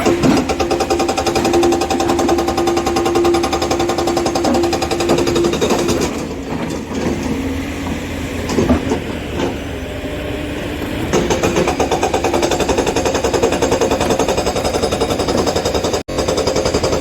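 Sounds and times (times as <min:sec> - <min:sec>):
hydraulic rock breaker hammering: 0:00.0 - 0:09.6, 0:10.8 - 0:17.0
diesel engine running: 0:00.0 - 0:17.0.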